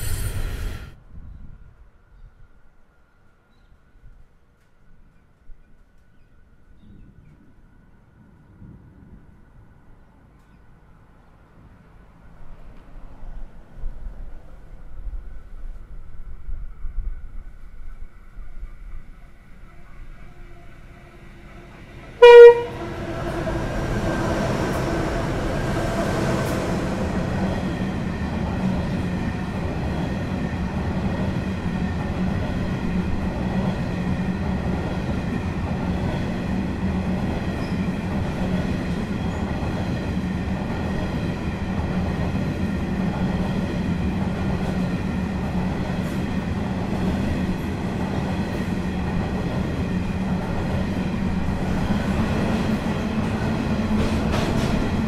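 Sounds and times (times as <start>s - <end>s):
wheels rumbling on rail: 5.6s - 55.0s
diesel locomotive engine: 9.9s - 55.0s.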